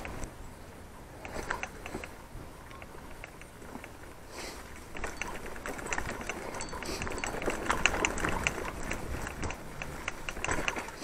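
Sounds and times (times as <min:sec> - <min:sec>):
bike rattling: 0:00.0 - 0:11.0
bike tyres on dirt trail: 0:00.0 - 0:11.0
sharp clicks and knocks: 0:01.2 - 0:11.0.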